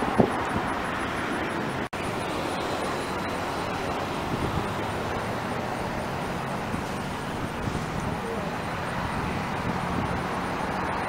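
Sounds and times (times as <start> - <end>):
passing traffic: 0.0 - 11.0.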